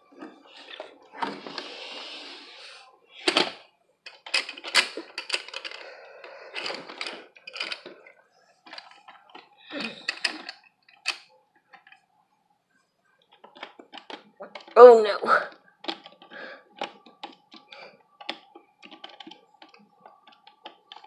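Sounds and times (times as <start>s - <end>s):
plastic toys clattering: 0.0s - 1.7s, 3.2s - 12.1s, 13.2s - 21.0s.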